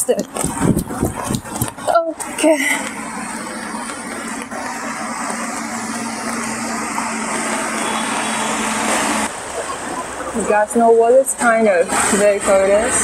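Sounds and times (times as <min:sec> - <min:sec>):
traffic on wet road: 0:00.0 - 0:13.0
vehicle engine humming: 0:00.0 - 0:13.0.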